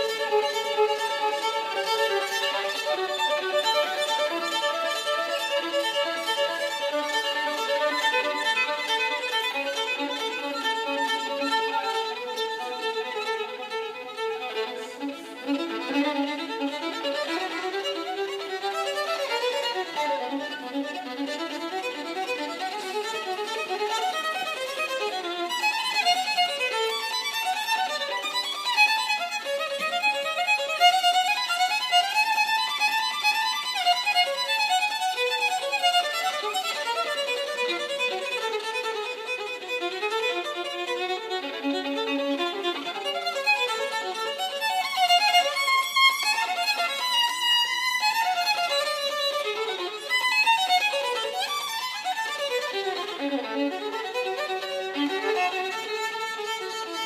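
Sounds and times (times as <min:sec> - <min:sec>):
solo violin melody: 0:00.0 - 0:57.0.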